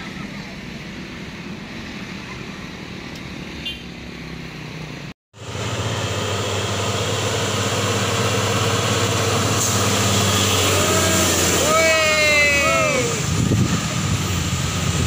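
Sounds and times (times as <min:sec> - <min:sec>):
light traffic passing: 0:00.0 - 0:15.0
truck diesel engine labouring: 0:00.0 - 0:15.0.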